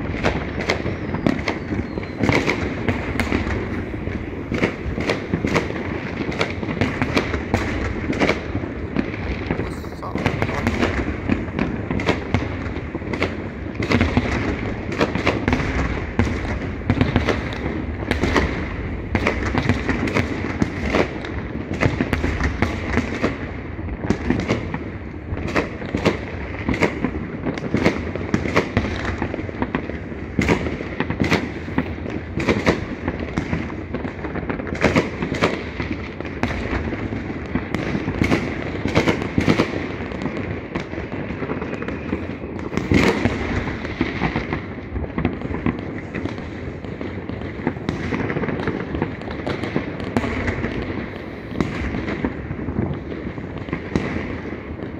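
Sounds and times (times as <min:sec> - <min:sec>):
fireworks bangs and pops: 0:00.0 - 0:54.9
fireworks crackle: 0:00.0 - 0:54.9.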